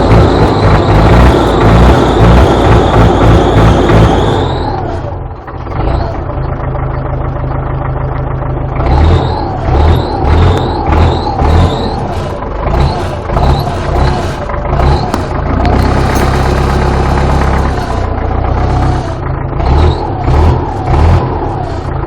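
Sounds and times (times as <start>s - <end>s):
tractor diesel engine revving: 0.0s - 22.0s.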